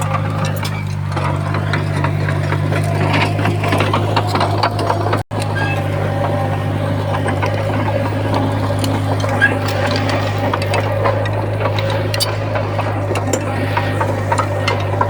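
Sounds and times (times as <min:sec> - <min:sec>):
diesel machinery droning: 0:00.0 - 0:15.0
metallic clatter and rattling: 0:00.0 - 0:15.0.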